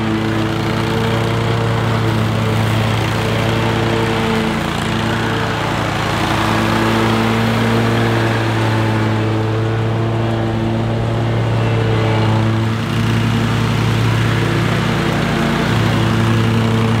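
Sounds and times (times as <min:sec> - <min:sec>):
mower blades cutting grass: 0:00.0 - 0:17.0
mower engine running: 0:00.0 - 0:17.0.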